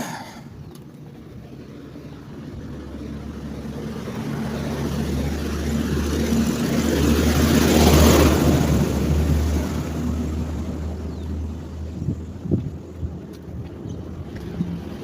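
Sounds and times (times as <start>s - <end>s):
vehicle passing by: 1.6s - 15.0s.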